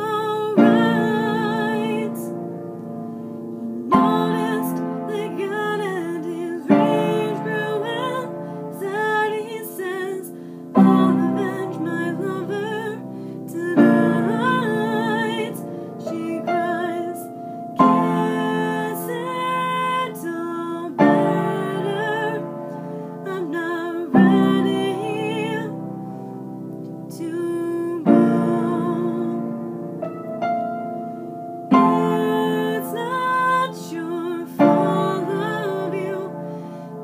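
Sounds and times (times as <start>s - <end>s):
woman singing: 0.0s - 2.5s, 3.6s - 25.8s, 27.1s - 29.8s, 31.7s - 36.6s
piano playing slow ballad: 0.0s - 37.0s.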